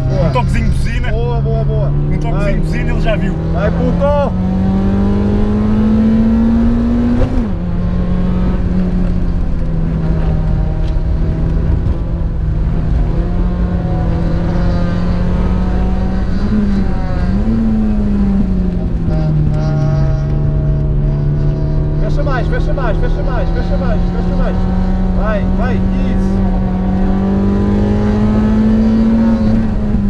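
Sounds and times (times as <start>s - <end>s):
car engine revving: 0.0s - 30.0s
road and tyre noise: 0.0s - 30.0s.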